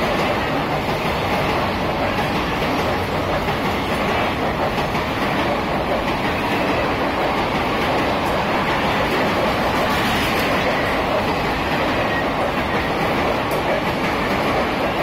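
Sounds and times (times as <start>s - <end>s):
train wheels running over rails: 0.0s - 15.0s.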